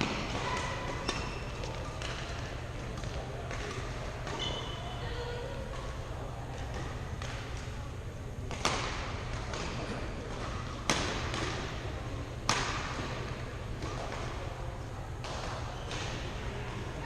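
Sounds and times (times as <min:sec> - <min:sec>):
rackets hitting shuttlecock: 0:00.0 - 0:04.9, 0:05.6 - 0:16.7
sports hall hum: 0:00.0 - 0:17.0.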